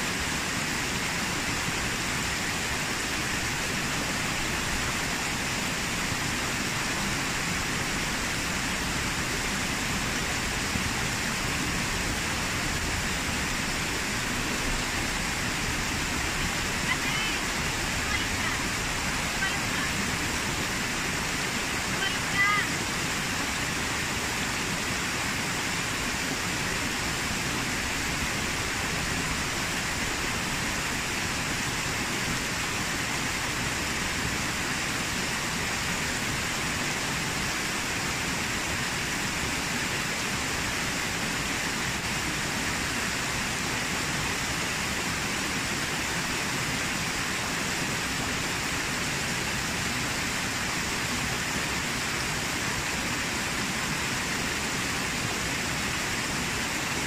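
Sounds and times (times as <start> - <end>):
water cascading over rocks: 0.0 - 57.0.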